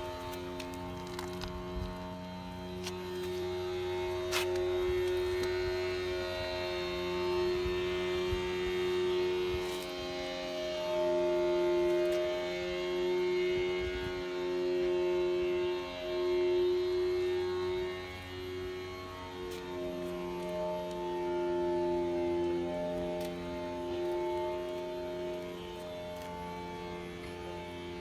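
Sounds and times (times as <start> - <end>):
low drone: 0.0 - 28.0.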